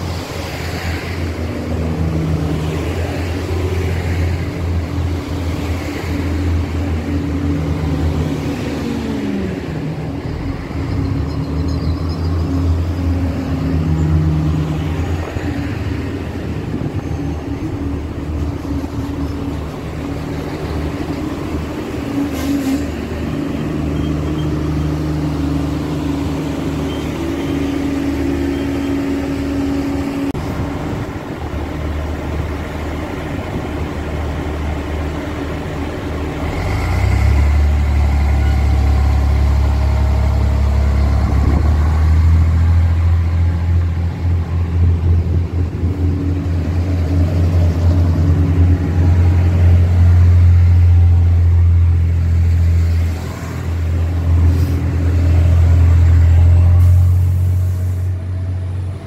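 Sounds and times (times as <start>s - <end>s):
train diesel engines running: 0.0s - 59.0s.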